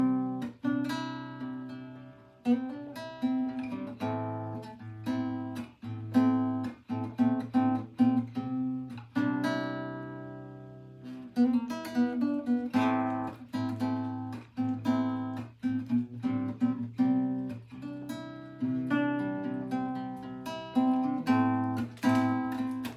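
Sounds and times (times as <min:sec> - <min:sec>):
acoustic guitar strumming: 0:00.0 - 0:22.9.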